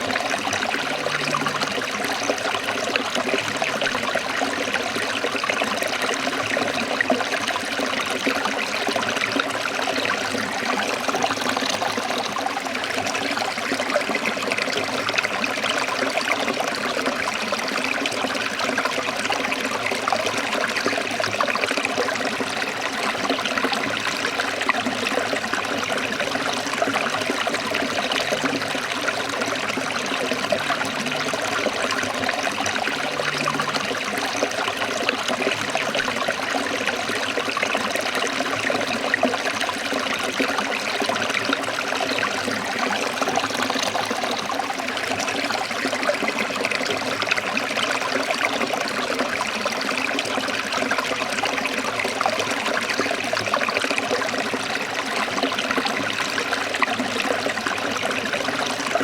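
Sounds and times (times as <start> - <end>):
stream trickling over rocks: 0.0 - 59.0.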